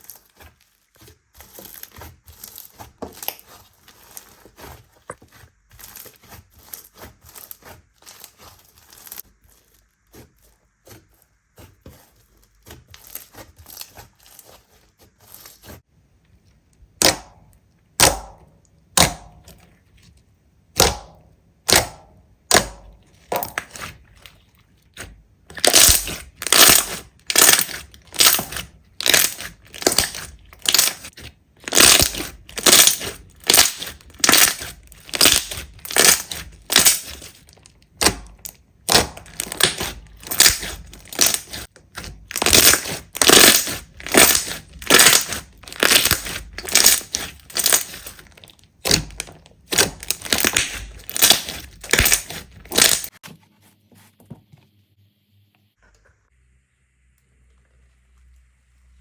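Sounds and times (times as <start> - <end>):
slime squishing and popping: 0.0 - 15.8, 16.9 - 19.6, 20.7 - 53.1.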